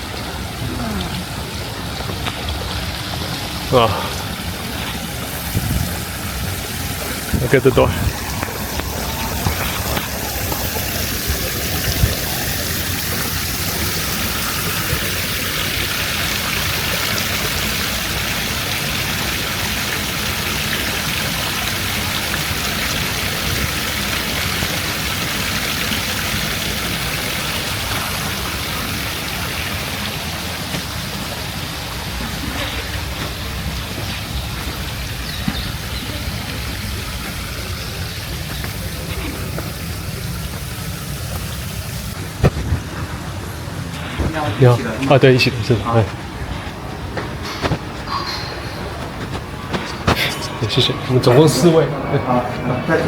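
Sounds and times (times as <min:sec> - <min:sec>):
water rushing and splashing: 0:00.0 - 0:53.0.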